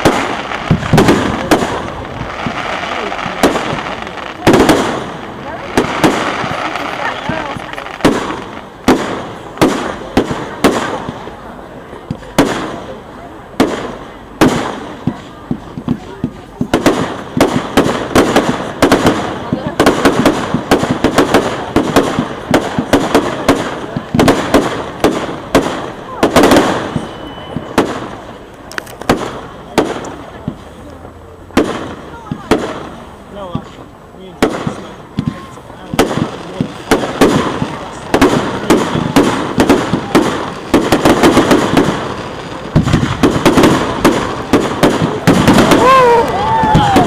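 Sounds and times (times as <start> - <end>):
fireworks bangs and cracks: 0.0 - 47.0.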